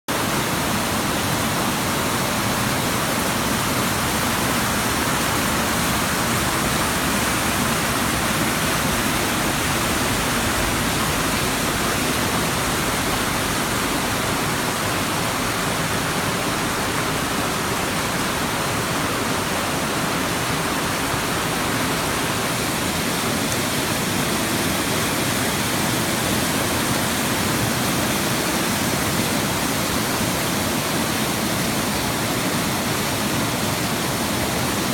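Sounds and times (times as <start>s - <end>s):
waterfall splashing: 0.1s - 34.9s.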